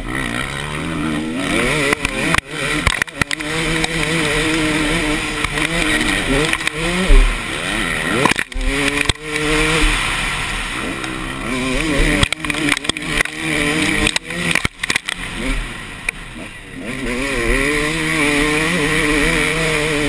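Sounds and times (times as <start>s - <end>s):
two-stroke motocross engine revving: 0.0s - 20.0s.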